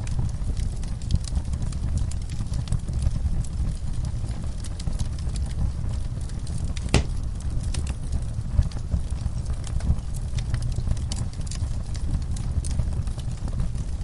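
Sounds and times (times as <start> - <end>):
fire pops: 0.0 - 14.0
fireplace crackling: 0.0 - 14.0.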